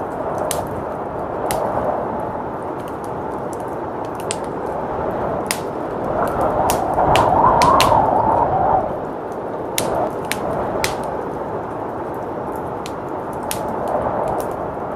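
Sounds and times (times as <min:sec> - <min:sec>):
blizzard wind rushing: 0:00.0 - 0:14.9
wood fire crackling and popping: 0:00.0 - 0:14.9.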